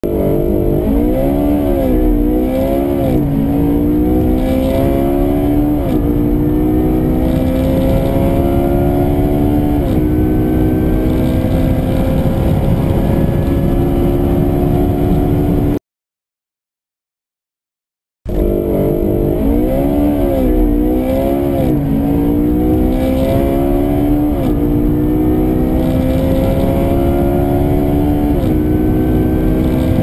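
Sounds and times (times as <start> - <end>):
car engine accelerating: 0.0 - 15.8, 18.3 - 30.0.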